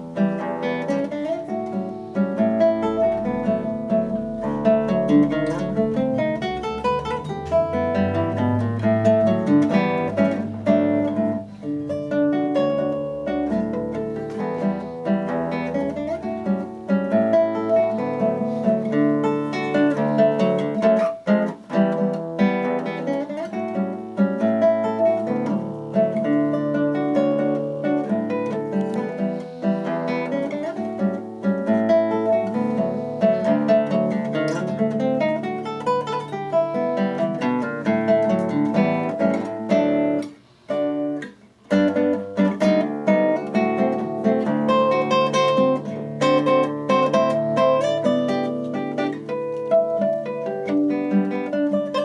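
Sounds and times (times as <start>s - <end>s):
fingerpicked acoustic guitar: 0.0s - 52.0s.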